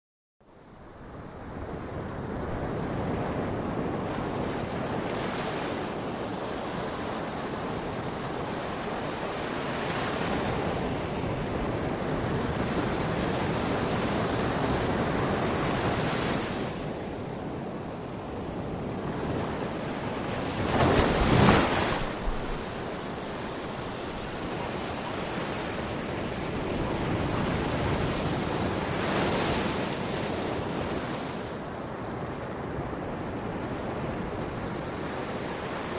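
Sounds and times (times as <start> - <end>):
sea waves breaking on beach: 1.7 - 35.9.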